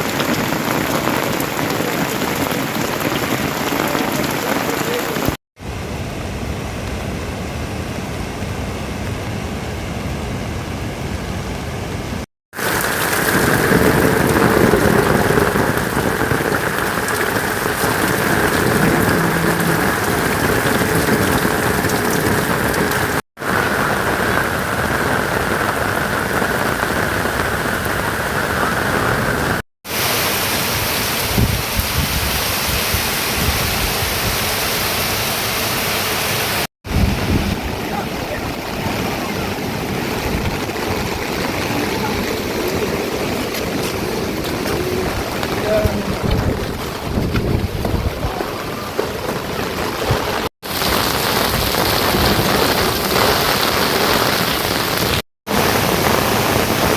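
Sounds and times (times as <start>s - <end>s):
heavy rain falling: 0.0s - 9.6s, 11.6s - 56.9s.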